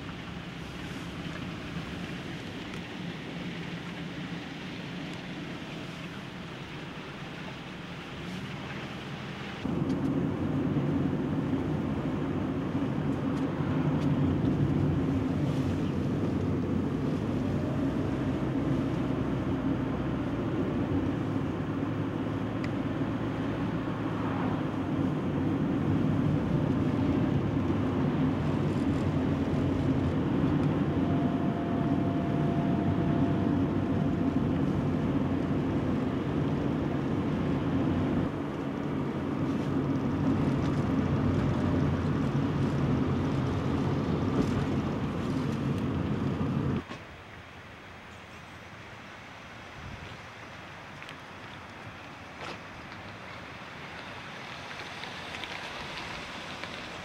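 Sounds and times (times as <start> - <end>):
car road noise: 0.0 - 57.0.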